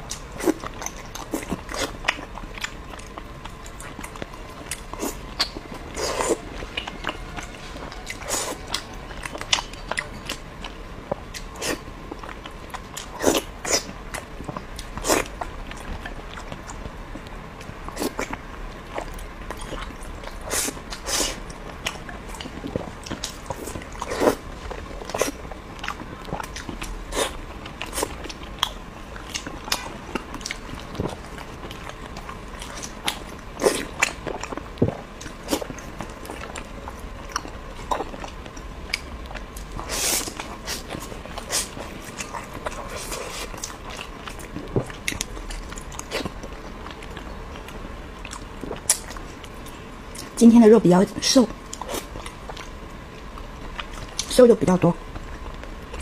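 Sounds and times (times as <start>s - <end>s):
person chewing food: 0.0s - 50.4s, 51.5s - 54.3s.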